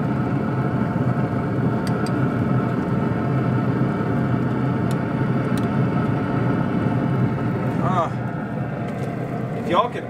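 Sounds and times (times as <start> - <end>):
grill fan whirring: 0.0 - 10.0.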